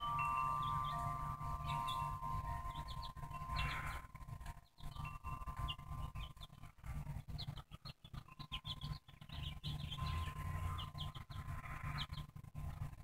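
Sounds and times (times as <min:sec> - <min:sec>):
baby chick peeping: 0:00.0 - 0:13.0
low steady rumble: 0:00.0 - 0:13.0.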